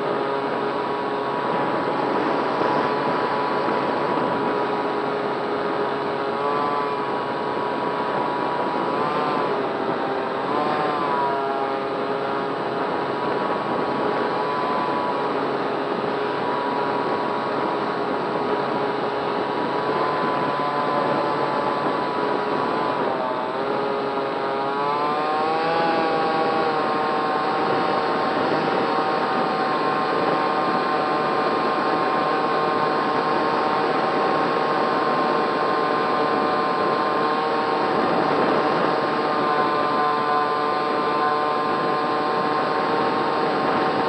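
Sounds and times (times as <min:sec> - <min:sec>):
model plane motor whine: 0:00.0 - 0:44.0.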